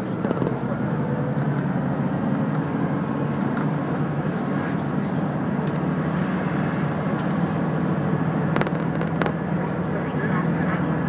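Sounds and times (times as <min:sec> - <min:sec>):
bus engine and cabin noise: 0:00.0 - 0:11.0.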